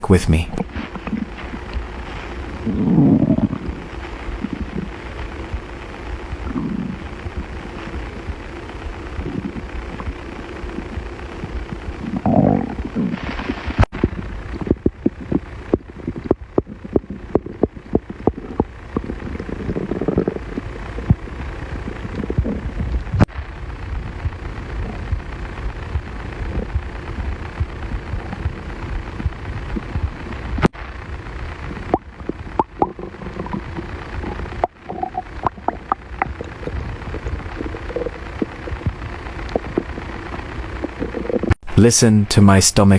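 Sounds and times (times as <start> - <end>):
stomach growling: 0.5 - 41.6.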